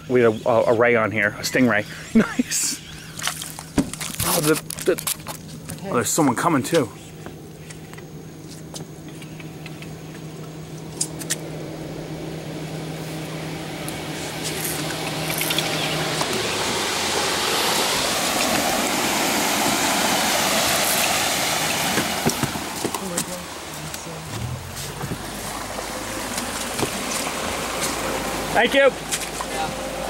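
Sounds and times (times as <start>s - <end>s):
low steady hum: 0.0s - 30.0s
motorboat engine: 0.0s - 30.0s.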